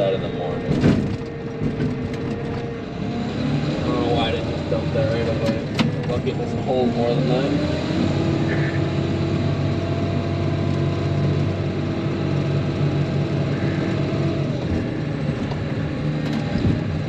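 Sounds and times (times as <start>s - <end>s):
loader diesel engine running: 0.0s - 17.0s.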